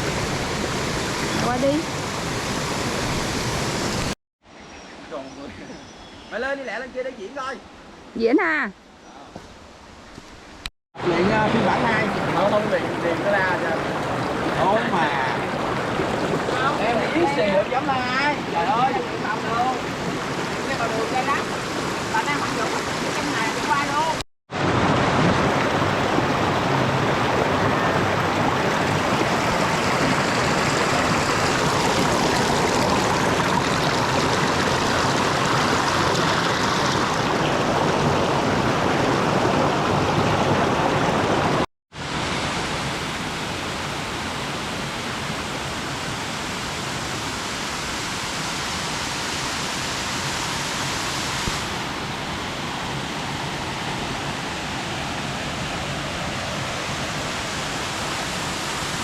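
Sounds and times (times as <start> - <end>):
stream rushing: 0.0 - 4.2, 11.0 - 59.0.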